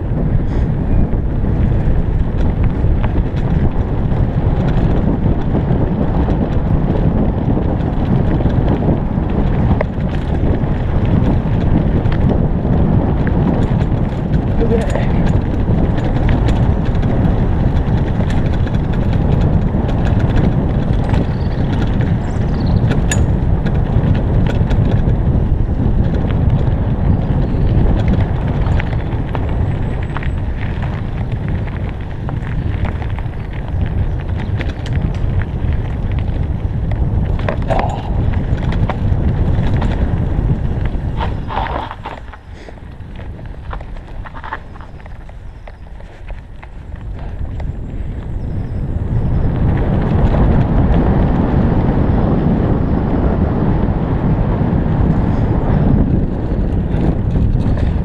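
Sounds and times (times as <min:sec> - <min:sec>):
bike rattling over rough trail: 0:00.0 - 0:58.0
wind buffeting microphone: 0:00.0 - 0:58.0.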